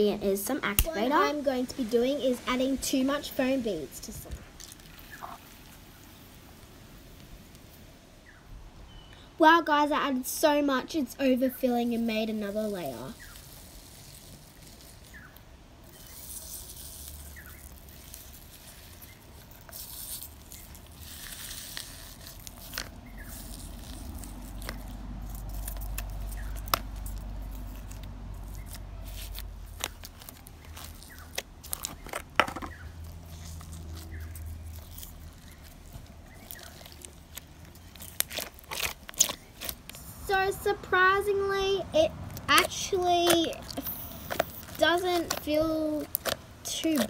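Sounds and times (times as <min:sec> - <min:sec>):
slime with foam beads crackling: 0:00.2 - 0:07.9, 0:09.7 - 0:47.0.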